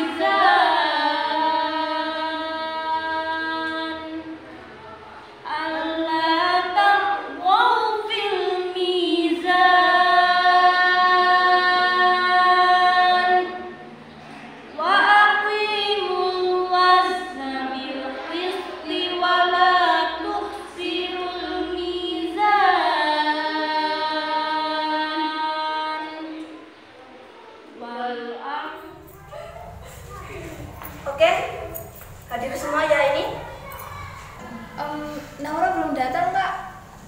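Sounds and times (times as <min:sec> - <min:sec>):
young voices chanting together: 0:00.0 - 0:31.7, 0:32.6 - 0:37.0.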